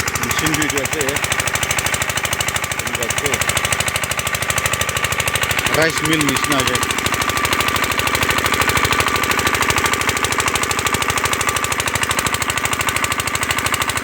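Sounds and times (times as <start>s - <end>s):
diesel pump engine chugging: 0.0s - 14.0s.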